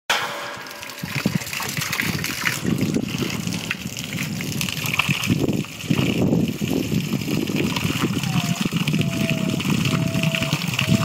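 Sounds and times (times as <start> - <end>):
water gushing and splashing: 0.1 - 11.0.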